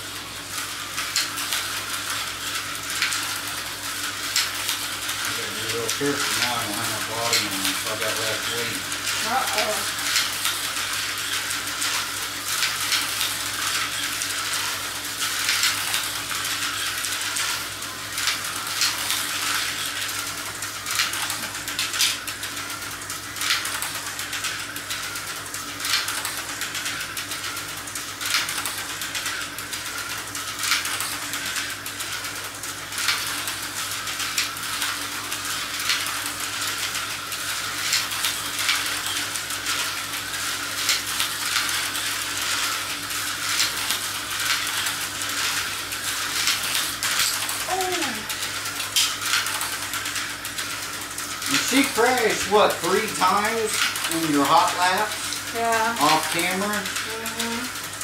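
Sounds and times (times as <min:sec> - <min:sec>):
slot car motors hissing: 0:00.0 - 0:58.0.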